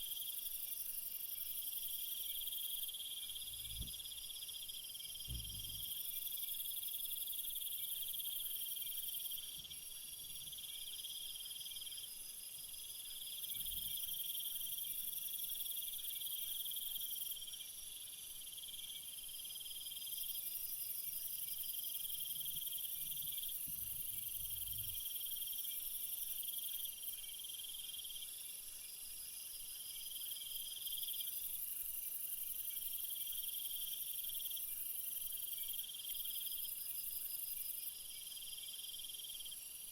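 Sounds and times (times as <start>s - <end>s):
insects chirping trills: 0.0s - 39.9s.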